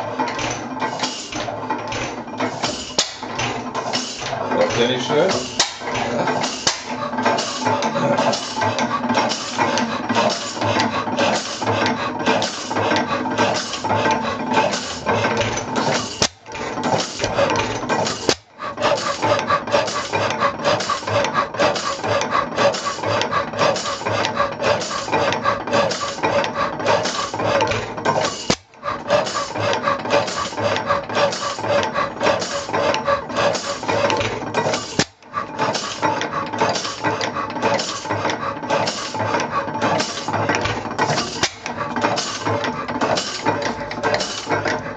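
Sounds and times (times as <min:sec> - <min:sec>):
stationary engine running: 0:00.0 - 0:44.9
valve gear clattering: 0:00.0 - 0:44.9.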